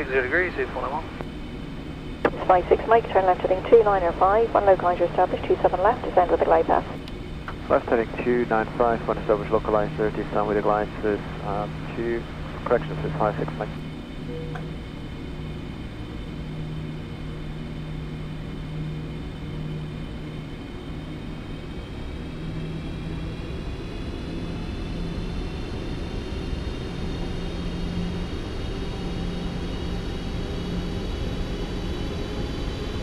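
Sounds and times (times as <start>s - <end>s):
jet engine high whine: 0.0s - 33.0s
jet engine rumble: 0.0s - 33.0s.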